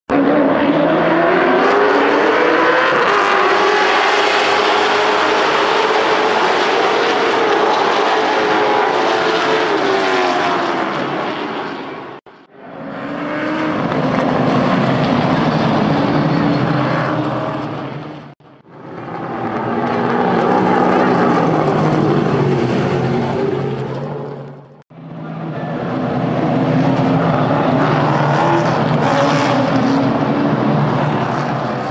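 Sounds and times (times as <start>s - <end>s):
race car engines passing: 0.1s - 31.9s.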